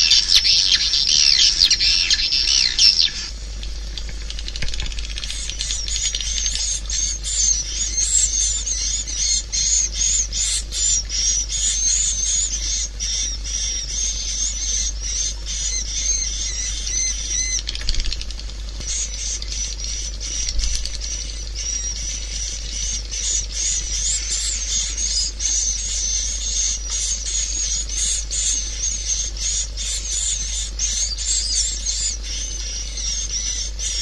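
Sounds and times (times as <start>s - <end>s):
steady low hum: 0.0s - 34.0s
swiftlets chirping and twittering: 0.0s - 34.0s.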